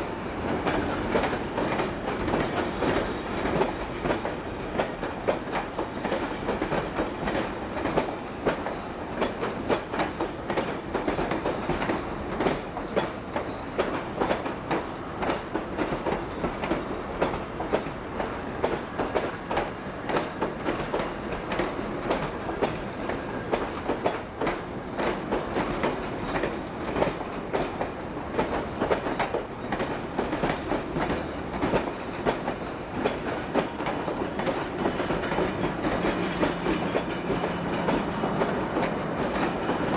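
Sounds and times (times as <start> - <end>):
train rumble: 0.0 - 39.9
train wheels clattering on rails: 0.0 - 39.9.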